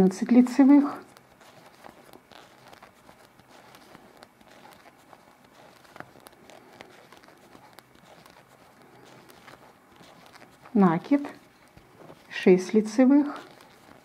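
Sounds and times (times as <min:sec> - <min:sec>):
knitting needles clicking: 0:00.8 - 0:12.4.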